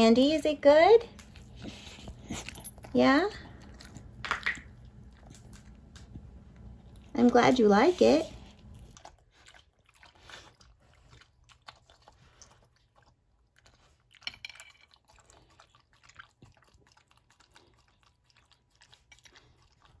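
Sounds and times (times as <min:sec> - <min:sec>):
dog chewing: 0:00.6 - 0:20.0.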